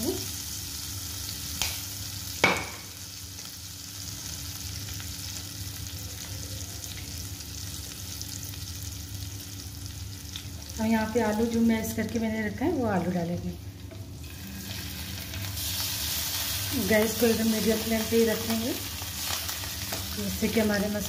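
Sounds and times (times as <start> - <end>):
oil sizzling in a pan: 0.0 - 21.0.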